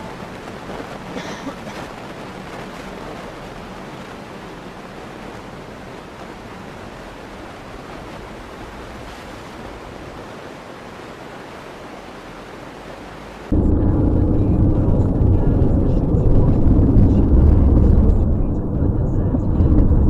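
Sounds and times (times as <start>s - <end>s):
car road noise: 0.0s - 20.0s
tyres on slushy road: 0.0s - 20.0s.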